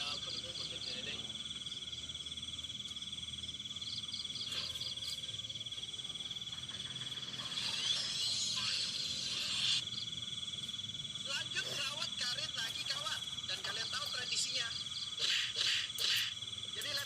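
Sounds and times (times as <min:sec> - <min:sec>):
crickets trilling: 0:00.0 - 0:17.0
insect chirps: 0:00.0 - 0:17.0.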